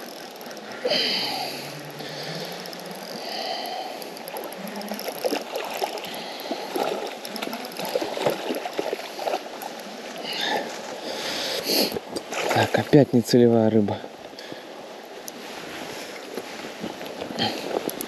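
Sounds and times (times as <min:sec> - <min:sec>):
river water rushing and gurgling: 0:00.0 - 0:18.0.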